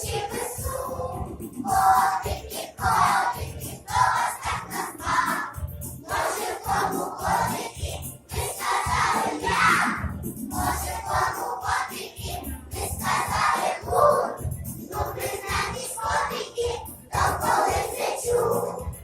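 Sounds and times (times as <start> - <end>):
children singing together: 0.0 - 19.0
music with steady beat: 0.0 - 19.0.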